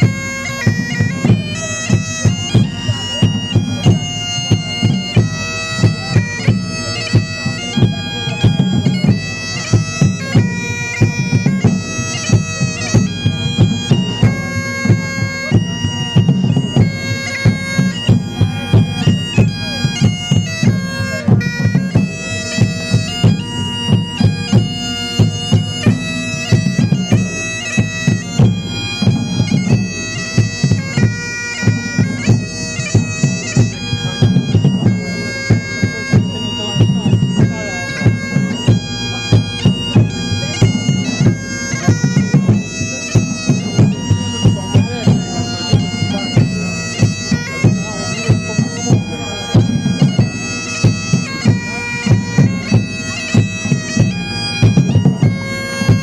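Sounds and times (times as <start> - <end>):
bagpipes playing: 0.0 - 56.0
drums beating: 0.0 - 56.0.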